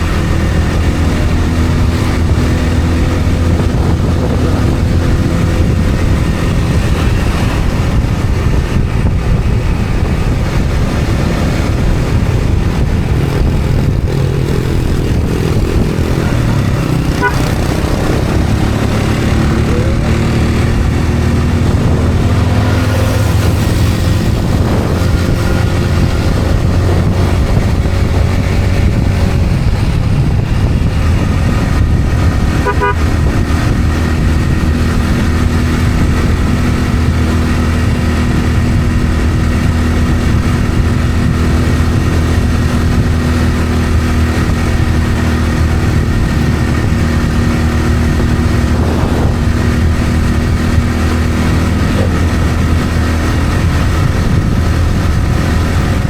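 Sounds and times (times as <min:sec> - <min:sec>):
road noise: 0:00.0 - 0:56.0
vehicle engine drone: 0:00.0 - 0:56.0.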